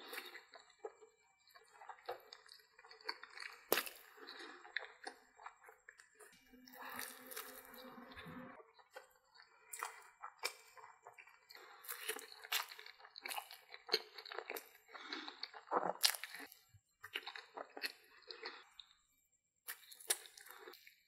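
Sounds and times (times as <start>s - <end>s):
person chewing crunchy food: 0.0s - 7.9s, 8.8s - 19.1s, 19.7s - 21.0s.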